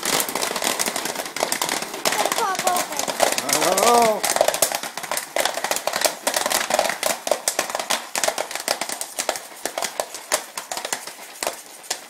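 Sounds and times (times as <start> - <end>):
popcorn kernels popping: 0.0 - 12.0.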